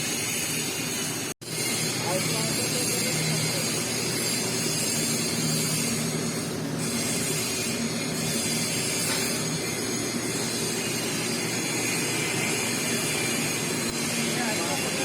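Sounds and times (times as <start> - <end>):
welding hiss: 0.0 - 15.0.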